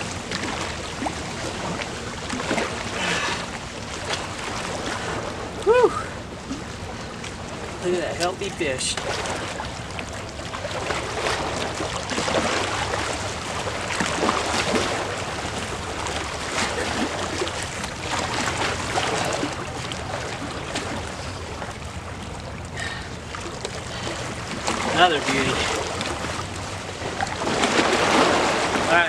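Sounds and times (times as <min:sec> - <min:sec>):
rushing water: 0:00.0 - 0:29.0
water splashing at lake edge: 0:00.0 - 0:29.0.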